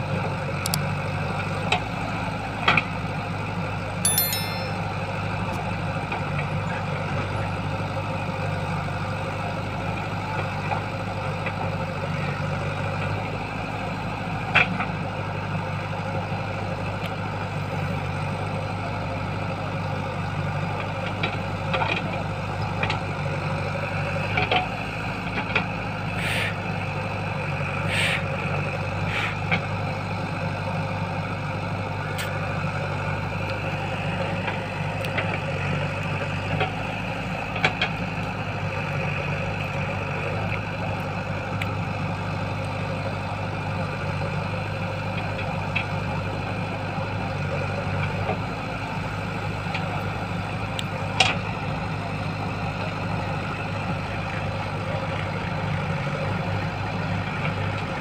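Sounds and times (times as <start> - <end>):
diesel engine running: 5.7 - 58.0.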